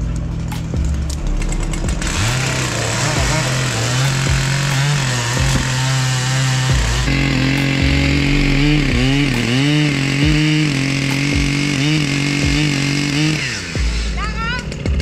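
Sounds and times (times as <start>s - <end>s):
chainsaw engine cutting wood: 0.0s - 15.0s.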